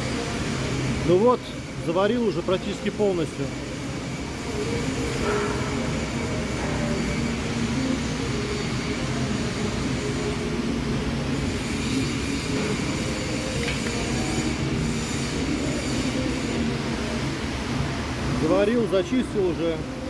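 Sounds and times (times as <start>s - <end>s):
workshop machinery hum: 0.0s - 20.0s.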